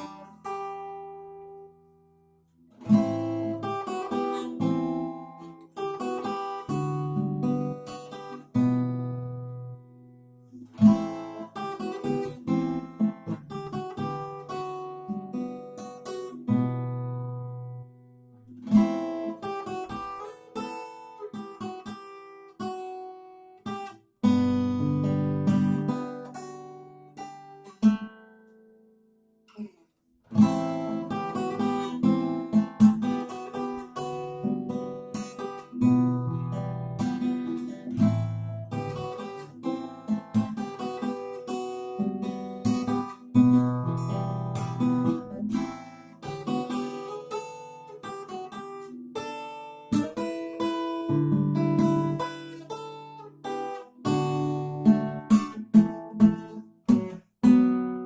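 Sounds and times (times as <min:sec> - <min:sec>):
fingerstyle acoustic guitar: 0:00.0 - 0:58.0.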